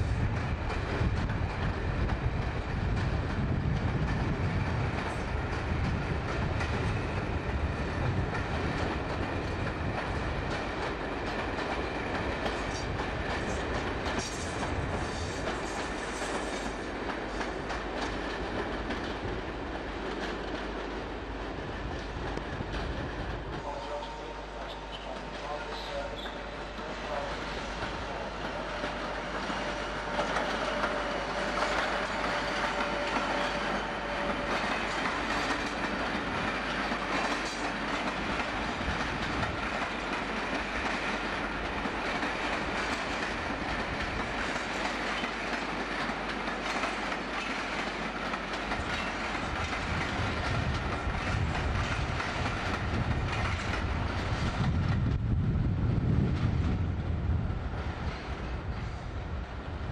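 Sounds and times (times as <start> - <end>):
train wheels clacking over rail joints: 0.0 - 55.1
low train rumble: 0.0 - 59.9.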